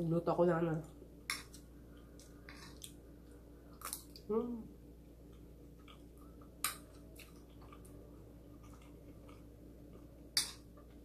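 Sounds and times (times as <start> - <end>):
soft chewing: 0.8 - 4.3, 5.0 - 11.0.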